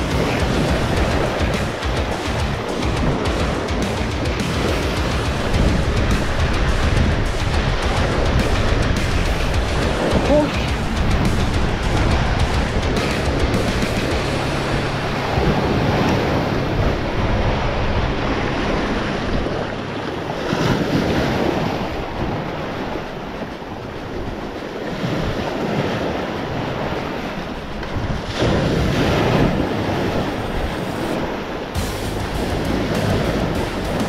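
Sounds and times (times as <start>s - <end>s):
waves breaking on rocks: 0.0s - 31.8s, 32.4s - 34.0s
wind buffeting microphone: 0.0s - 34.0s.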